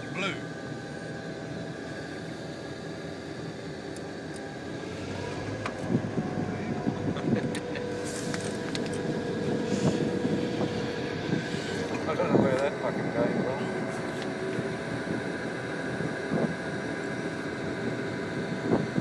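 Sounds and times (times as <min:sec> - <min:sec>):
diesel locomotive drone: 0:00.0 - 0:19.0.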